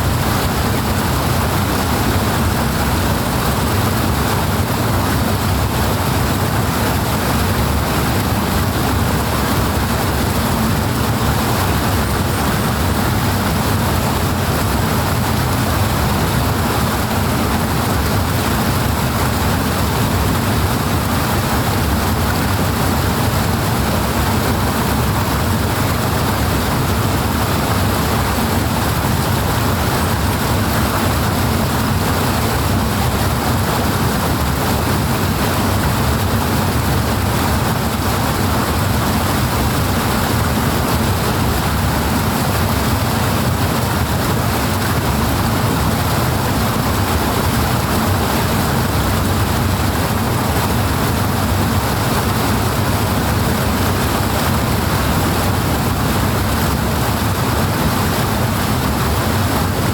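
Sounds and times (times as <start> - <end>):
powerful rushing water: 0.0 - 59.9.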